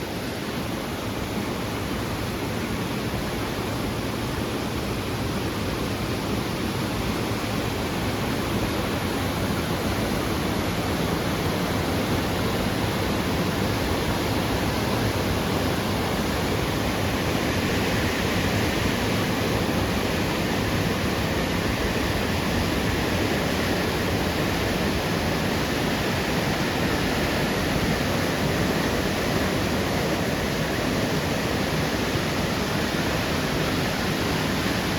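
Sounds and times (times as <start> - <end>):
heavy rain and rushing water: 0.0 - 34.9.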